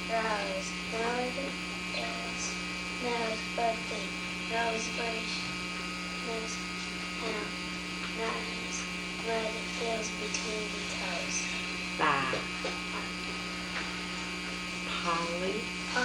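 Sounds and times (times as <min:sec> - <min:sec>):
electrical hum: 0:00.0 - 0:16.0
thin high whine: 0:00.0 - 0:16.0.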